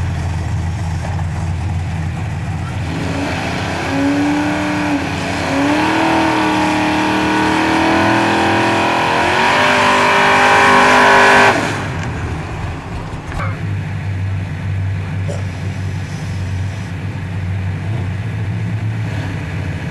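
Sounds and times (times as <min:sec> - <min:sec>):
engine revving through gears: 0:00.0 - 0:19.9.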